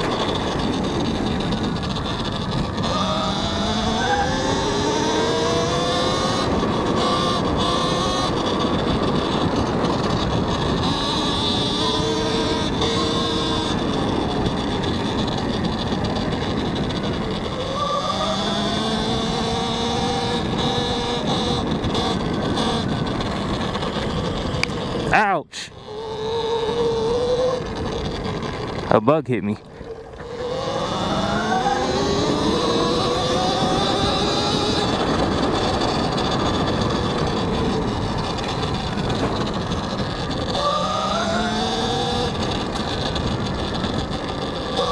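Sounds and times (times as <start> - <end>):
wind noise on microphone: 0.0 - 29.0, 29.6 - 44.9
electric motor whining: 0.0 - 44.9
tyres rumbling over rough ground: 0.0 - 44.9.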